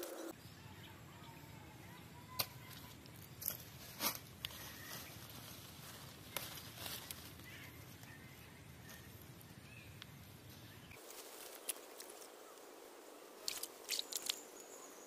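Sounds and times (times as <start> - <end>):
leafy branches rustling: 2.5 - 15.0.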